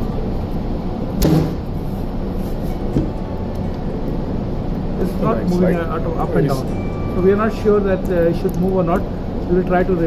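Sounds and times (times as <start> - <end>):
machinery hum: 0.0 - 10.0.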